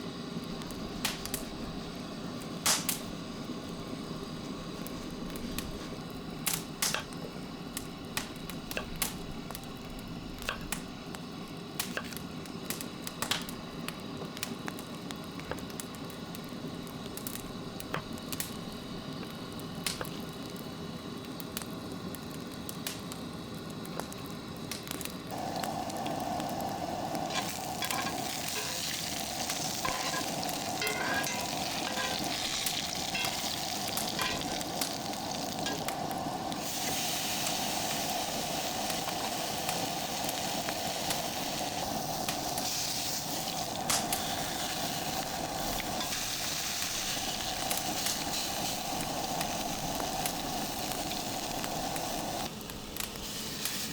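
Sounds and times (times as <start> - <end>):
sizzling with crackles and pops: 0.0 - 53.9
steady hiss: 0.0 - 53.9.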